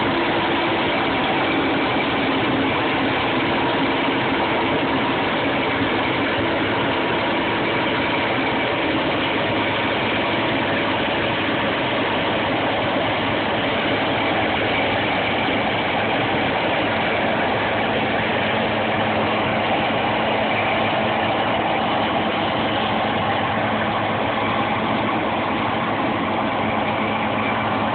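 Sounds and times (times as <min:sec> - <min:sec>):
combine harvester drone: 0:00.0 - 0:27.9.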